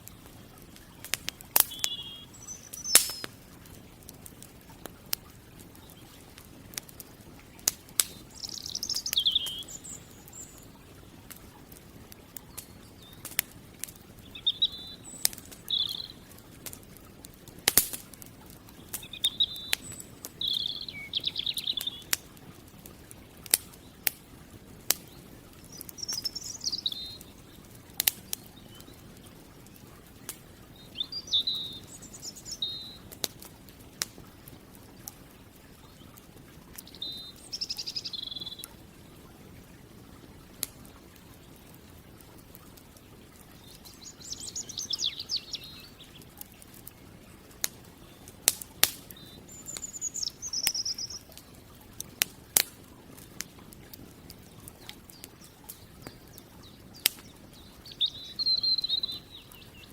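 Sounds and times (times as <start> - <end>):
birds singing: 0.0 - 17.3, 18.0 - 24.1, 24.7 - 33.2, 35.3 - 42.3, 43.0 - 51.7, 54.3 - 59.9
campfire pops and crackles: 0.0 - 59.9.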